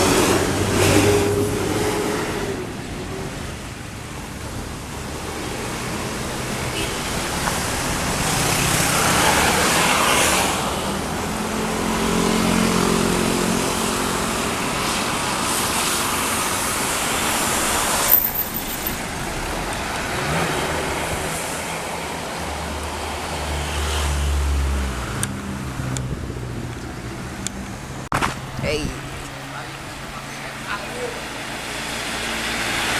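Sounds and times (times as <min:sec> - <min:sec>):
heavy vehicle engine drone: 0:00.0 - 0:32.9
vehicles driving past: 0:00.0 - 0:32.9.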